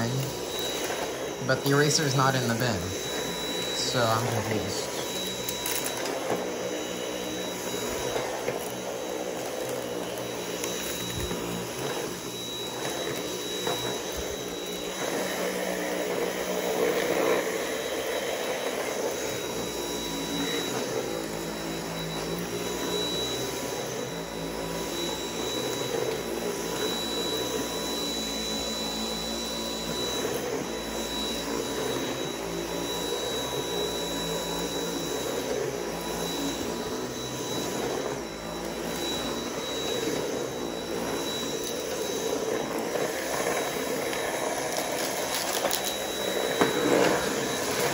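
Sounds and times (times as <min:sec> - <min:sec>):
vacuum cleaner motor whine: 0:00.0 - 0:47.9.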